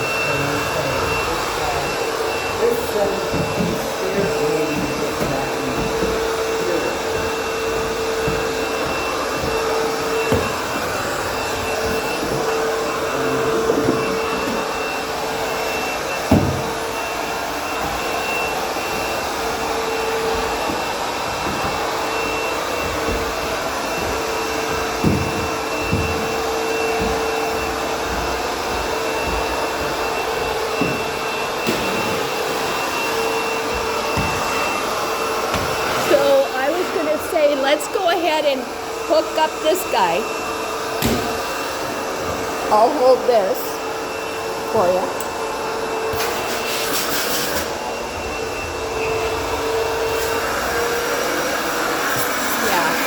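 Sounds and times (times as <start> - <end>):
vacuum knocking against steps: 0.0 - 46.2
vacuum cleaner running: 0.0 - 53.0.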